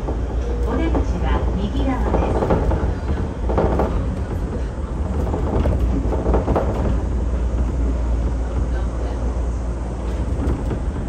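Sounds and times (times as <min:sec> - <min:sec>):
monorail rumbling and rattling: 0:00.0 - 0:11.0.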